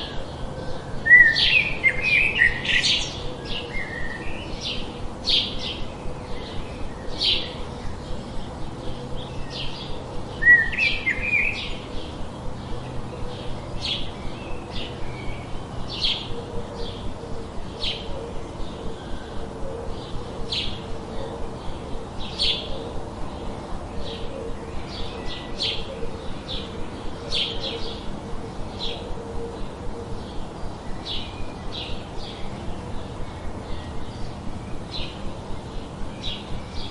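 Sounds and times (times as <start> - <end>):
bird chirping: 0.0 - 36.9
bird twittering call: 0.0 - 36.9
steady background hiss: 0.0 - 36.9.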